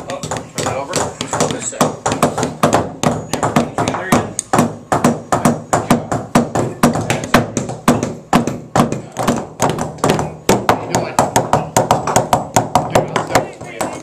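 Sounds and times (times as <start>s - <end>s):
hammers driving nails into wood: 0.0s - 14.0s.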